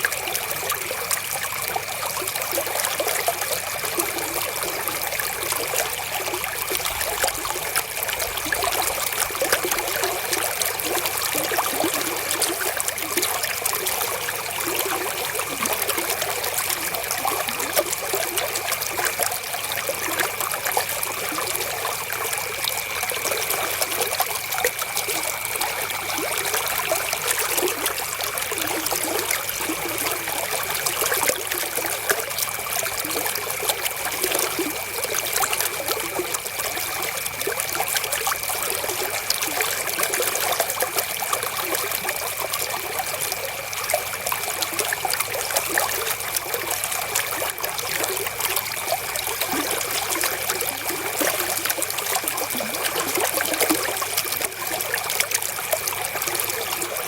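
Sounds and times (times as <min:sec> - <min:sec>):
river water trickling: 0:00.0 - 0:57.0.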